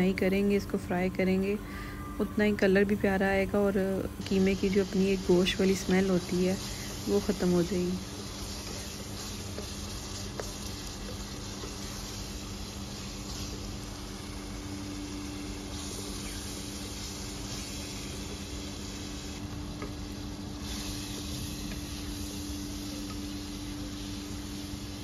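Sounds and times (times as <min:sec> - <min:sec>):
mince sizzling in a pot: 0:00.0 - 0:25.0
steady low hum: 0:00.0 - 0:25.0.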